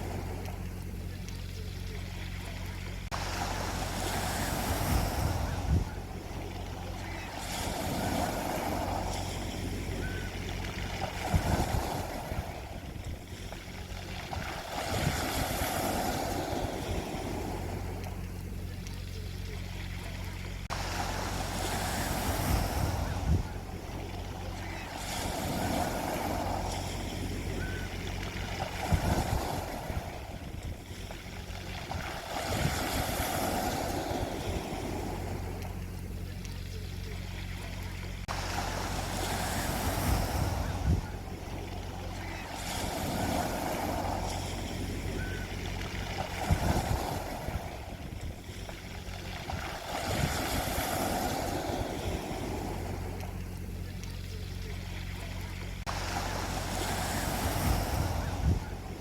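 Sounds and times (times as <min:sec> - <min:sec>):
sea waves washing onto beach: 0:00.0 - 0:59.0
steady low hum: 0:00.0 - 0:59.0.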